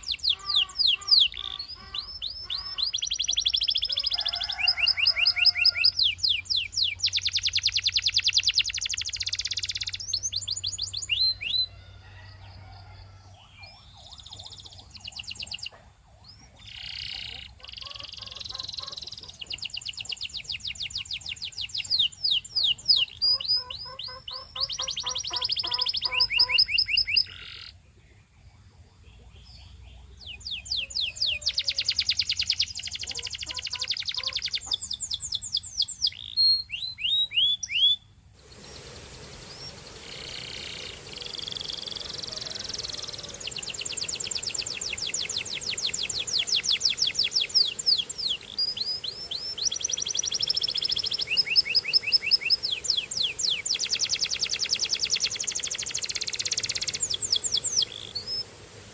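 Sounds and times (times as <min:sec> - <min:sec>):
canary singing trills: 0:00.0 - 0:12.6, 0:13.2 - 0:58.5.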